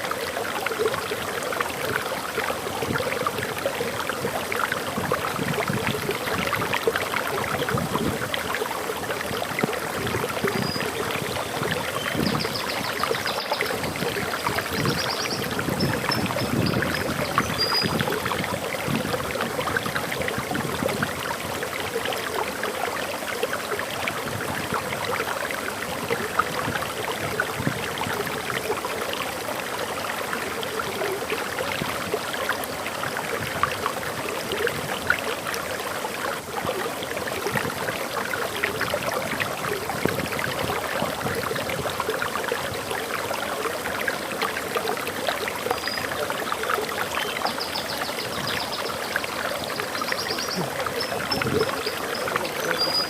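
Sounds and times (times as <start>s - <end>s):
waterfall flowing: 0.0s - 53.0s.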